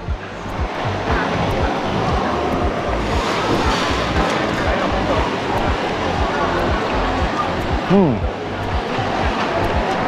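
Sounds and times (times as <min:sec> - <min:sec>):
music with low pulsing beat: 0:00.0 - 0:10.0
steady rushing noise: 0:00.0 - 0:10.0.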